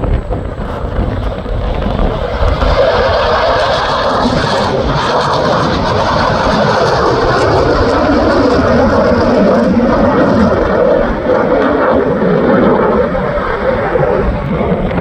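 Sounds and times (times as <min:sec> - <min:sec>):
fighter jet engine roar: 0:00.0 - 0:15.0
low wind rumble on microphone: 0:00.0 - 0:15.0.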